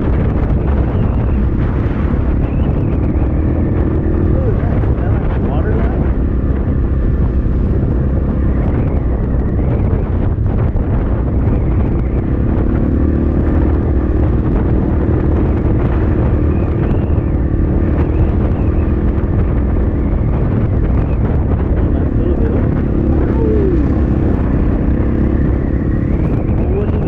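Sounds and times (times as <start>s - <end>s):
dirt bike engine running: 0.0s - 27.0s
wind buffeting microphone: 0.0s - 27.0s.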